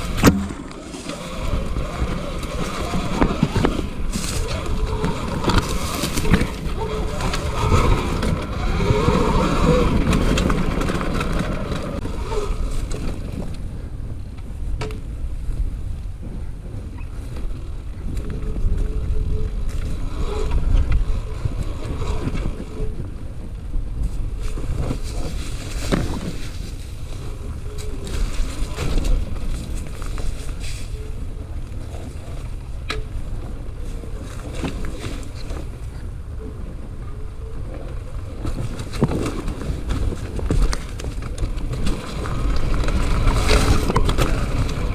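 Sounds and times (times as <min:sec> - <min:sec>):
bike clicks and rattles: 0:00.0 - 0:15.6, 0:16.2 - 0:44.9
bike tyre noise: 0:00.0 - 0:44.9
wind rumble on microphone: 0:00.0 - 0:44.9.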